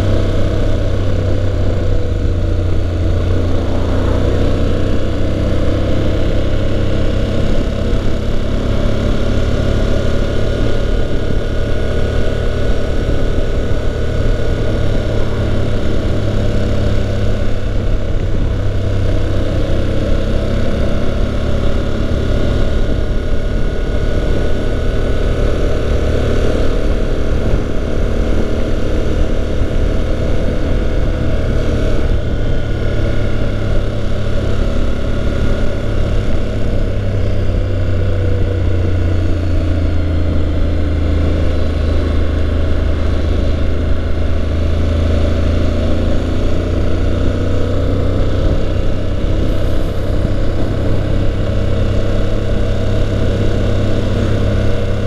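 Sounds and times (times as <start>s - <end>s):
motorcycle engine running: 0.0s - 55.0s
road noise: 0.0s - 55.0s
wind noise: 0.0s - 55.0s.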